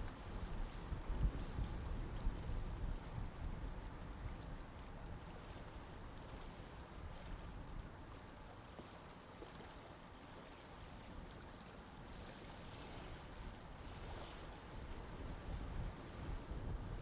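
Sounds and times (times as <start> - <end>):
low wind rumble: 0.0 - 8.2, 11.0 - 17.0
lake water lapping: 0.0 - 17.0.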